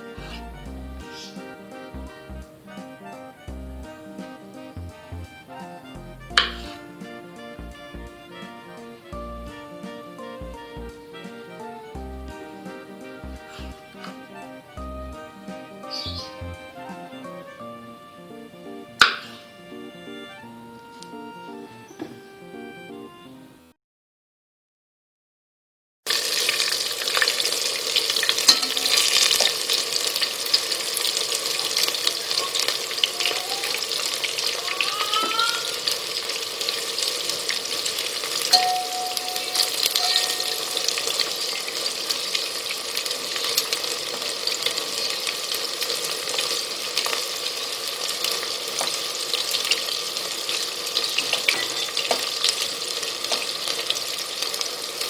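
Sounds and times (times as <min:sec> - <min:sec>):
food sizzling in oil: 0:00.0 - 0:03.2, 0:03.9 - 0:17.2, 0:26.1 - 0:55.0.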